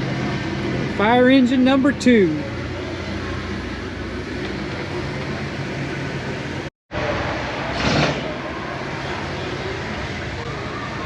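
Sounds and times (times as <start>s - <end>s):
low mechanical hum: 0.0s - 11.0s
outdoor background noise: 0.0s - 11.0s.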